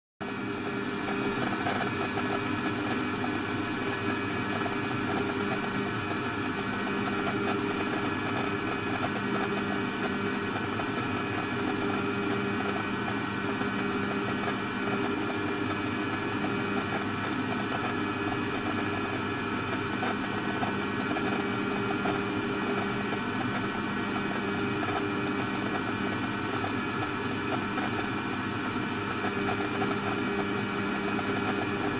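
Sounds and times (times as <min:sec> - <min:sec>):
machine hum with held tones: 0:00.2 - 0:31.9.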